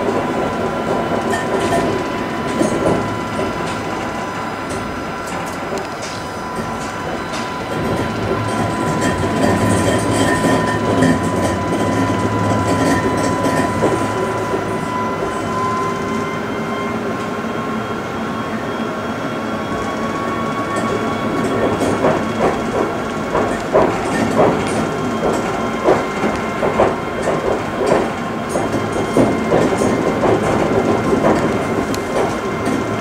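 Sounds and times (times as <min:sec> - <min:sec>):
tram wheels rumbling on rail: 0:00.0 - 0:33.0.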